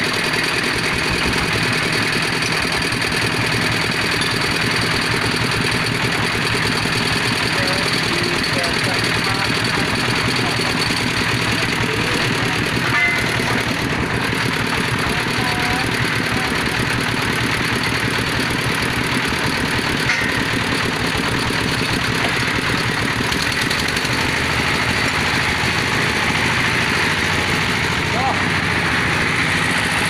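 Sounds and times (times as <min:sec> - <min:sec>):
drilling machine engine running: 0:00.0 - 0:30.0.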